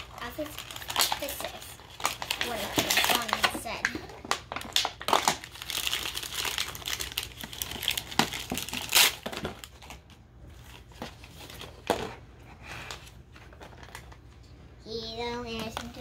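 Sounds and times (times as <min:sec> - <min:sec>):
packaging crinkling and tearing: 0:00.0 - 0:12.0, 0:12.8 - 0:14.3.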